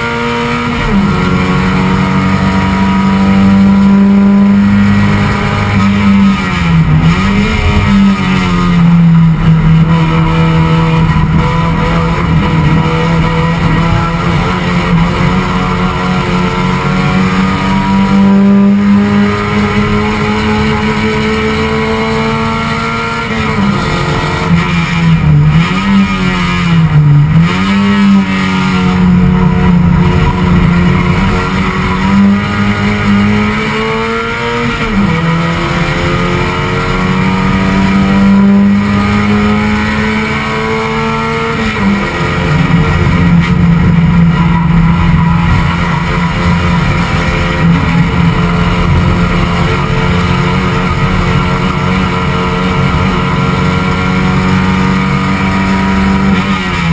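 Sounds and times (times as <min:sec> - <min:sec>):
race car engine at high revs: 0:00.0 - 0:56.9
road and wind noise: 0:00.0 - 0:56.9.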